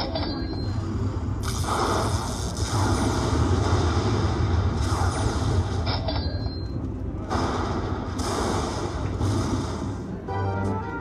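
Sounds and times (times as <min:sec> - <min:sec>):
low background din: 0:00.0 - 0:11.0.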